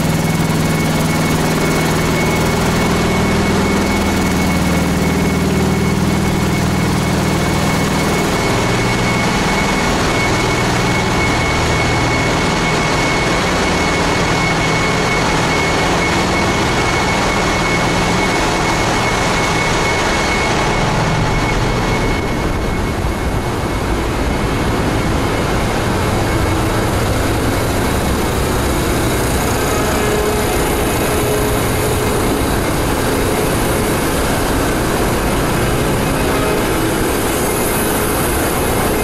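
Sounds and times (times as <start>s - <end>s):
engine room machinery running: 0.0s - 39.0s
high steady whine: 0.0s - 39.0s.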